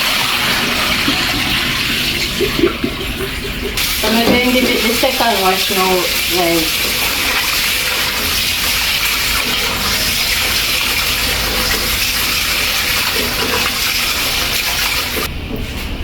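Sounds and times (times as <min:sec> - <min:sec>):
water running from tap into bowl: 0:00.0 - 0:15.3.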